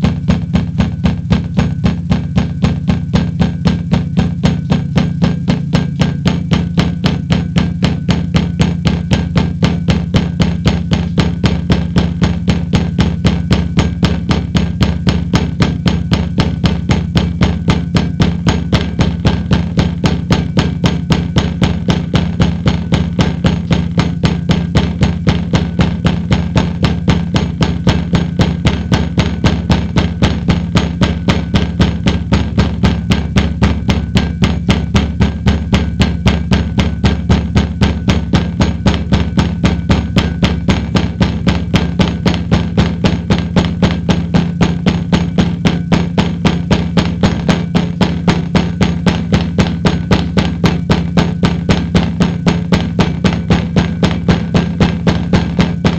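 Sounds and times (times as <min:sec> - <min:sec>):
fast even knocking: 0:00.0 - 0:55.9
steady low hum: 0:00.0 - 0:55.9.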